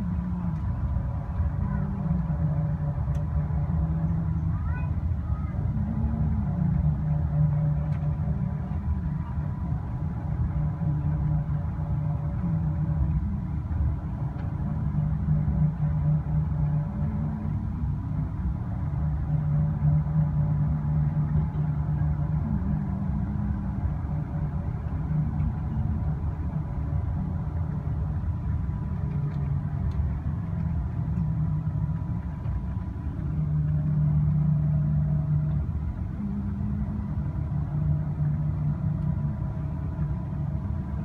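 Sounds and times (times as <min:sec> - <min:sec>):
low droning hum: 0:00.0 - 0:41.0
vehicle engine rumble: 0:00.0 - 0:41.0.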